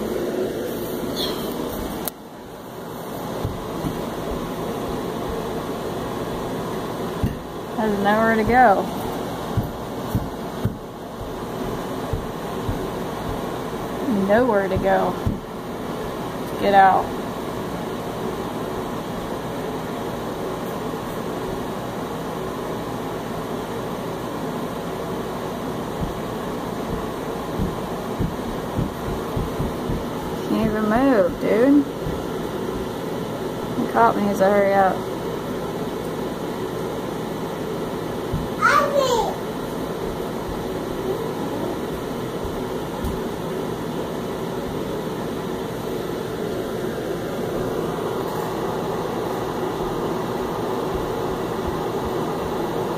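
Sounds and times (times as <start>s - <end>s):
car engine and fan hum: 0.0s - 52.9s.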